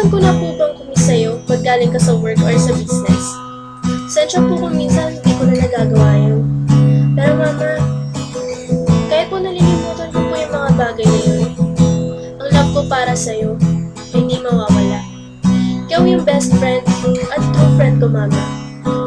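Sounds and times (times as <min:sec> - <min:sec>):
acoustic guitar strumming: 0:00.0 - 0:19.0
gliding melody line: 0:00.0 - 0:19.0.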